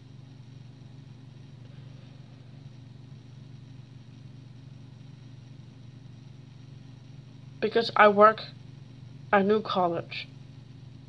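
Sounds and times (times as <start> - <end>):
faint low room hum: 0.0 - 11.0.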